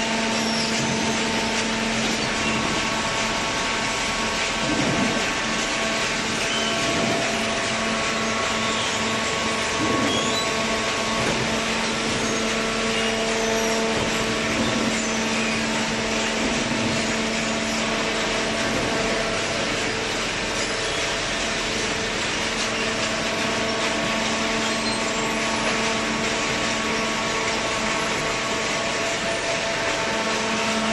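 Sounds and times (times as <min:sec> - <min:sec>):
industrial machinery humming: 0:00.0 - 0:30.9.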